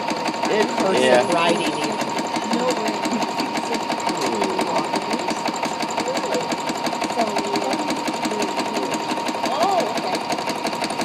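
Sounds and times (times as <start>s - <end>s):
sewing machine motor whine: 0.0s - 11.0s
sewing machine needle clatter: 0.0s - 11.0s.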